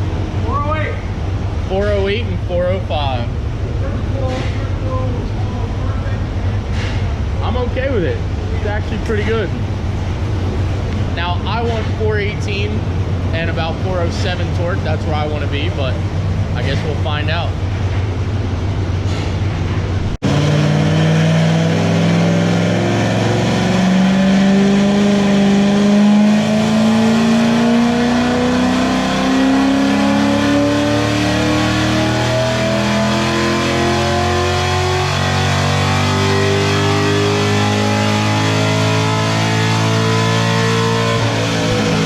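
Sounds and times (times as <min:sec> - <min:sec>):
car engine revving at full throttle: 0:00.0 - 0:17.6, 0:20.0 - 0:42.0.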